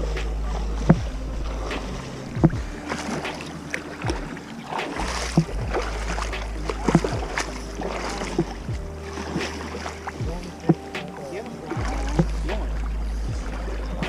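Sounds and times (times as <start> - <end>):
low steady rumble: 0.0 - 14.0
water splashing from wading: 0.0 - 14.0.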